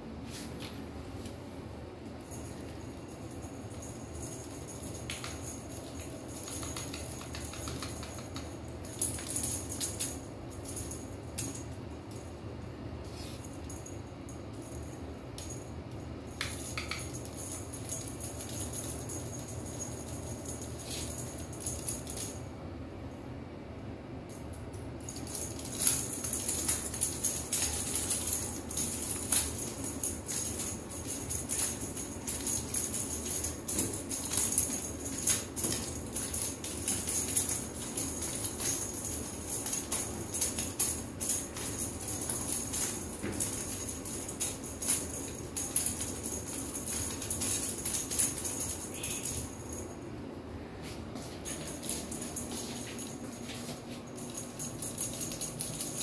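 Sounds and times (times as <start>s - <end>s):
jingling and rattling: 2.0s - 22.6s, 24.3s - 50.1s, 51.2s - 56.0s.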